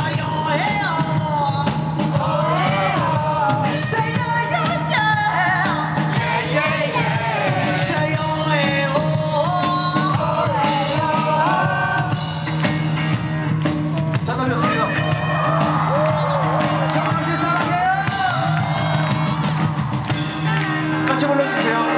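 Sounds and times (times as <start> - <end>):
electric bass guitar: 0.0 - 21.9
live rock band playing: 0.0 - 21.9.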